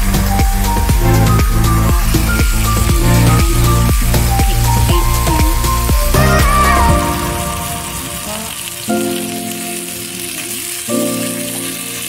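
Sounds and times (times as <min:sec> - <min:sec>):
background music chords: 0:00.0 - 0:12.0
fish sizzling in oil: 0:00.1 - 0:12.0.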